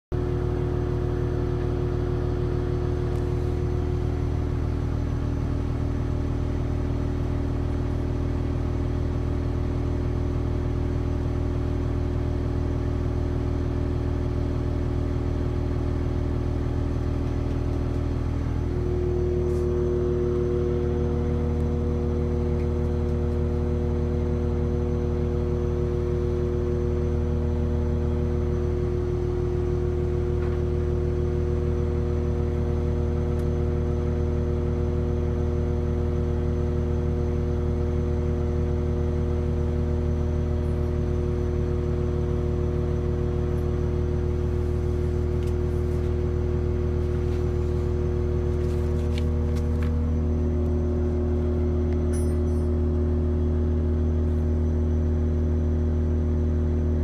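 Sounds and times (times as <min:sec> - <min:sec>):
diesel engine idling: 0:00.2 - 0:56.9.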